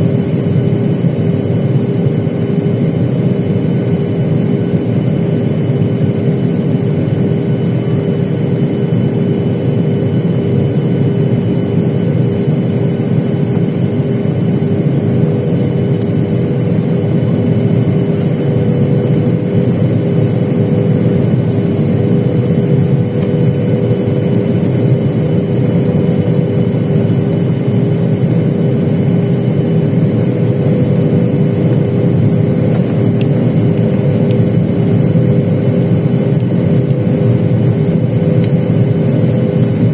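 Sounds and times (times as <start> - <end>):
jet engine drone: 0.0 - 39.9
steady humming tones: 0.0 - 39.9.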